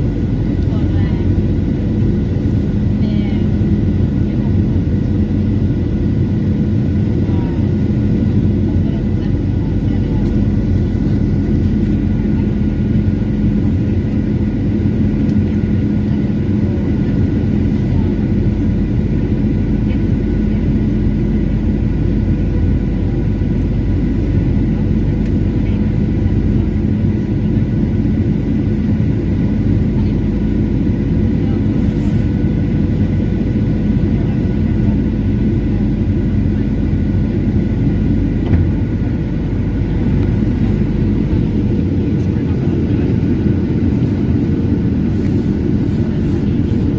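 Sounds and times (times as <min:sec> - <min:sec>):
airflow over fuselage: 0:00.0 - 0:46.9
airliner cabin engine rumble: 0:00.0 - 0:46.9
steady whining tones: 0:00.0 - 0:46.9.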